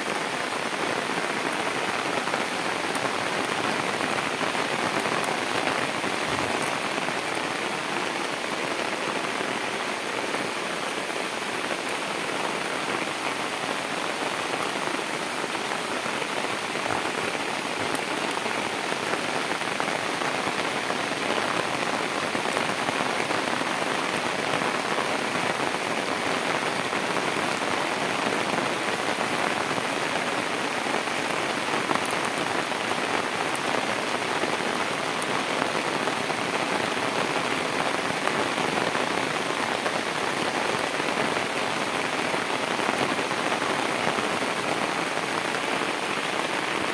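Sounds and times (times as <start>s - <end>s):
rain falling on water: 0.0s - 46.9s.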